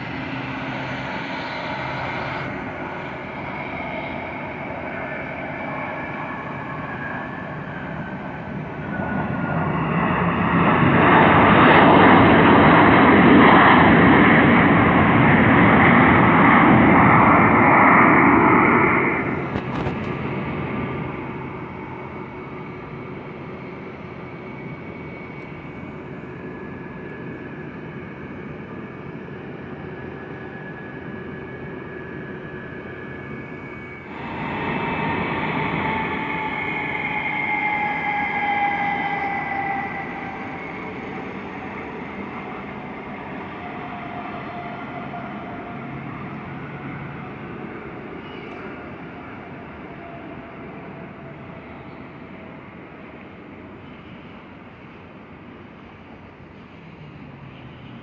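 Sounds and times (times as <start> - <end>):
jet engine rumble: 0.0 - 57.4
jet engine whine falling in pitch: 0.0 - 58.0.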